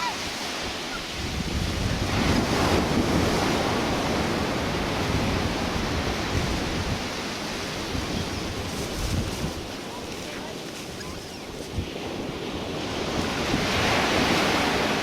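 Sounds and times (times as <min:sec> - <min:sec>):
wind and surf rushing: 0:00.0 - 0:15.0
wind buffeting microphone: 0:00.0 - 0:15.0.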